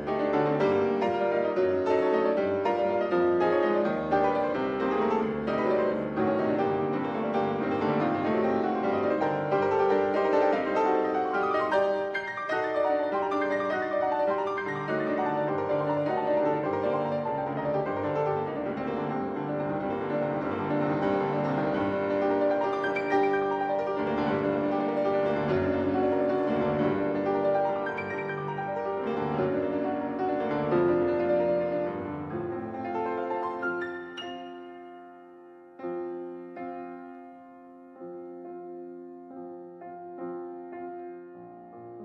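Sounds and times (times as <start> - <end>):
piano background music: 0.0 - 42.0.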